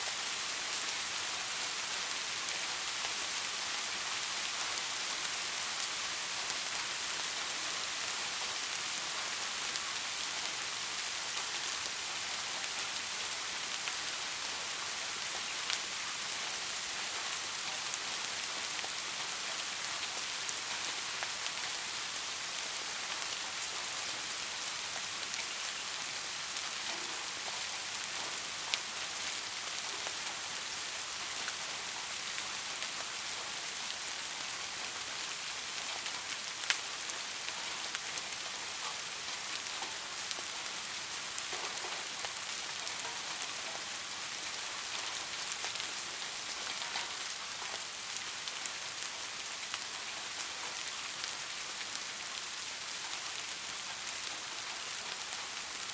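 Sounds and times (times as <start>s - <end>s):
rain falling on a surface: 0.0s - 55.9s.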